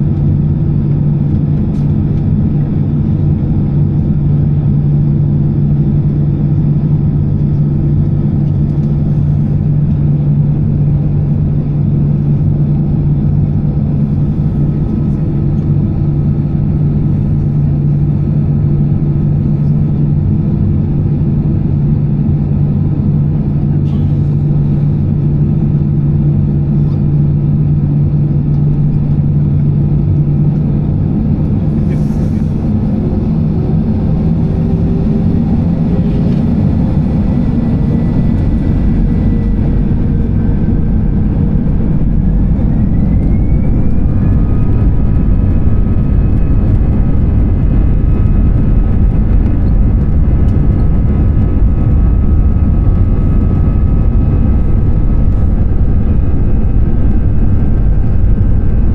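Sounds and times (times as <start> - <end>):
aircraft cabin engine rumble: 0.0 - 58.9
rising engine whine: 0.0 - 58.9.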